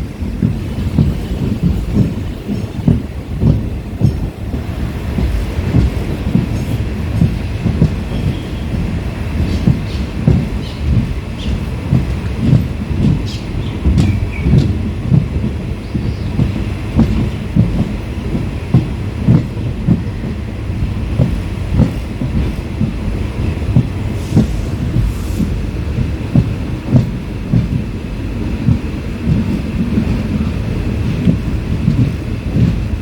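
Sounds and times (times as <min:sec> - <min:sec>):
train rumbling: 0:00.0 - 0:33.0
wheels clacking over rail joints: 0:00.0 - 0:33.0.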